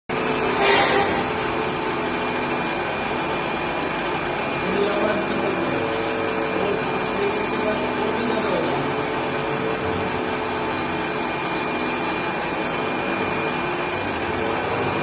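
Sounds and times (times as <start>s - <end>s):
pump motor whirring: 0.1s - 15.0s.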